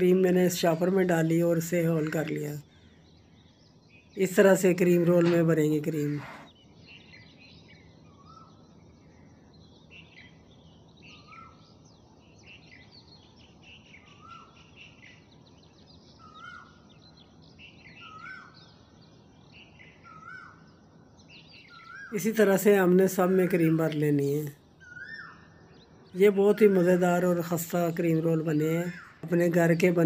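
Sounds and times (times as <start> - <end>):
faint bird chirping: 0.0 - 30.0.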